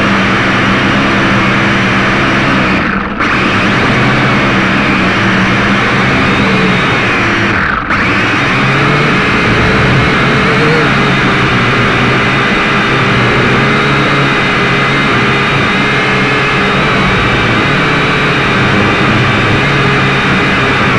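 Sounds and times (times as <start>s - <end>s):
drone propellers whirring: 0.0s - 20.9s.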